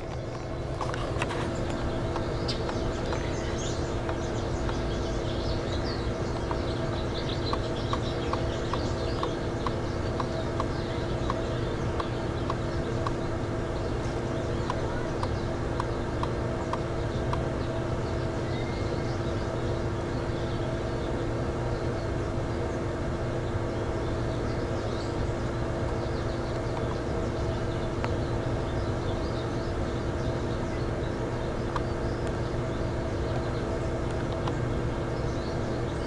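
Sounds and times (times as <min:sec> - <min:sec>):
birds chirping: 0:00.0 - 0:36.0
pool equipment humming: 0:00.0 - 0:36.0.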